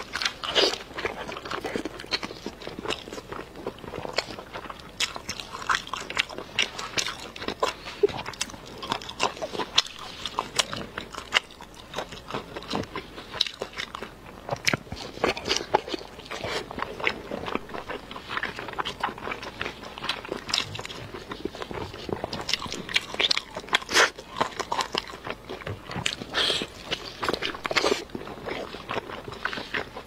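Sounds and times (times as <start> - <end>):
chewing with mouth clicks: 0.0 - 30.0.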